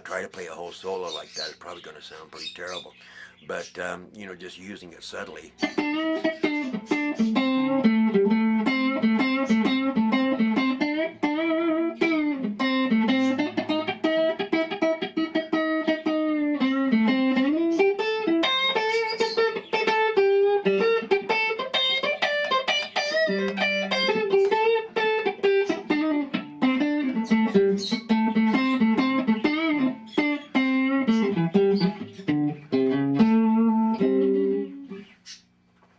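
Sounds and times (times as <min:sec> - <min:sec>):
electric guitar blues playing: 0:00.0 - 0:35.2.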